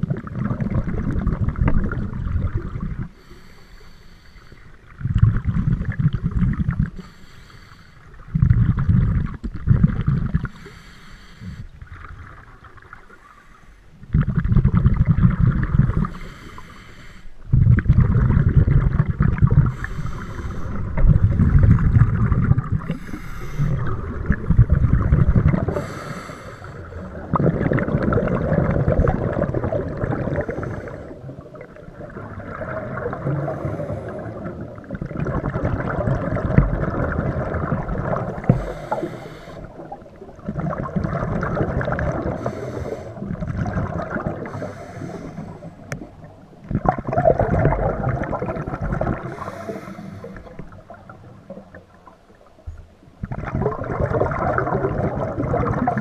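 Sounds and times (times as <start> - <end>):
scuba exhaled bubbles rushing: 0.0 - 3.3, 4.9 - 7.0, 8.2 - 10.6, 14.1 - 16.4, 17.5 - 52.5, 53.2 - 56.0.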